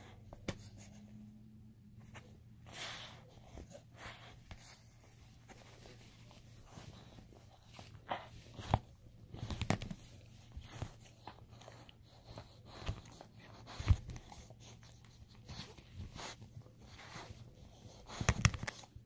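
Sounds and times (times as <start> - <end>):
dog chewing on a toy: 2.9 - 19.0.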